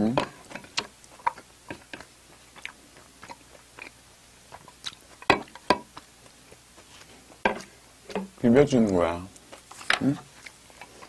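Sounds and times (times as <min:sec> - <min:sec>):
person chewing food: 0:00.2 - 0:11.0.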